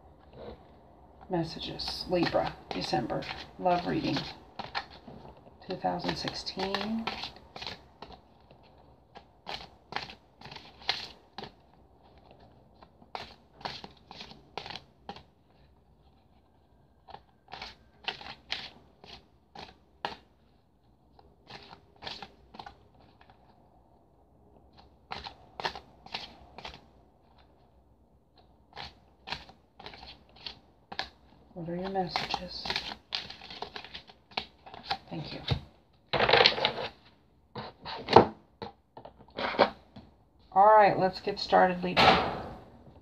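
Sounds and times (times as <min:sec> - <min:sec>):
cards being shuffled: 0:01.2 - 0:16.4, 0:17.0 - 0:20.4, 0:21.2 - 0:23.6, 0:24.7 - 0:27.6, 0:28.3 - 0:40.1.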